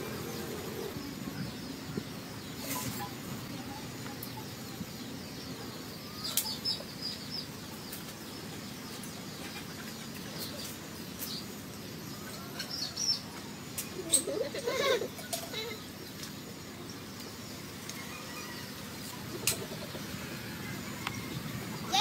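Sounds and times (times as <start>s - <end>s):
low background noise: 0.0s - 22.0s
small birds chirping: 0.0s - 22.0s.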